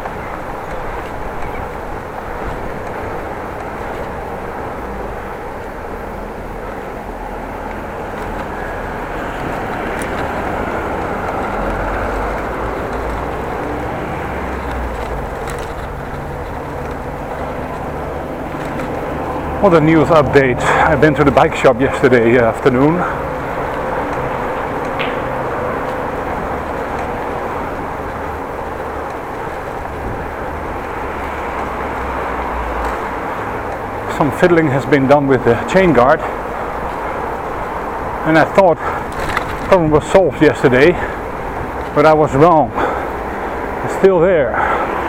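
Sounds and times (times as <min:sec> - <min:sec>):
bicycle road and wind noise: 0:00.0 - 0:45.0.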